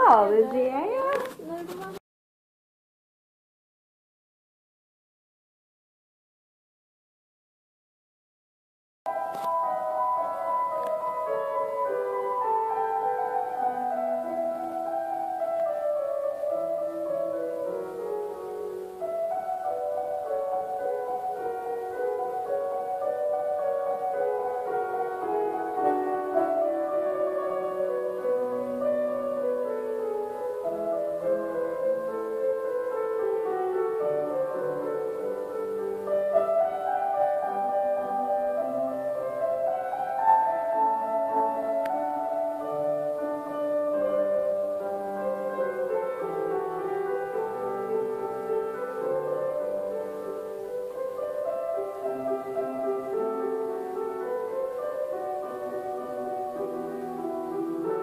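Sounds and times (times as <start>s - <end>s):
grand piano playing: 0.0s - 2.0s, 9.1s - 58.0s.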